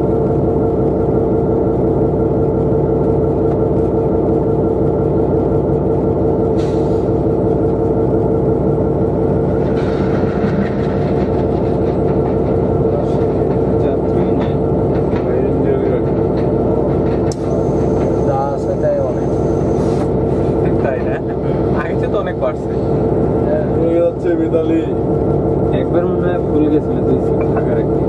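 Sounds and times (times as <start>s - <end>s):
diesel locomotive engine droning: 0.0s - 28.0s.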